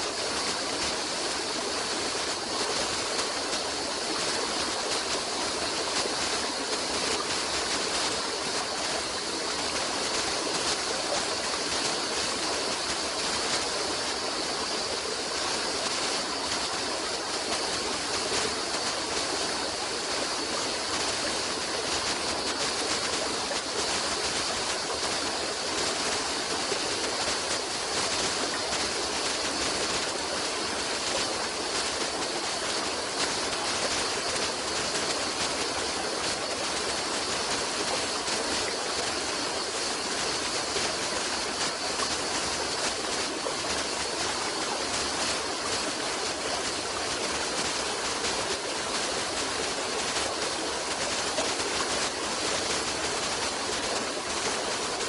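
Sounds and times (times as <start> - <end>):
stream water rushing and gurgling: 0.0 - 55.0.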